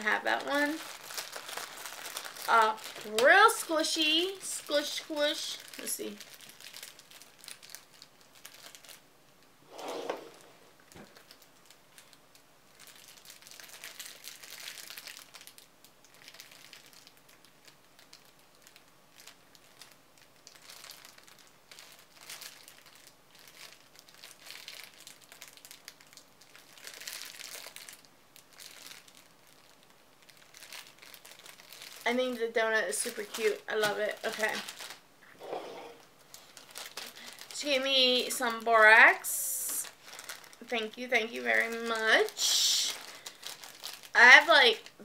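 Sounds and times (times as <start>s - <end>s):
plastic bag crinkling: 0.0s - 9.0s, 10.1s - 45.0s.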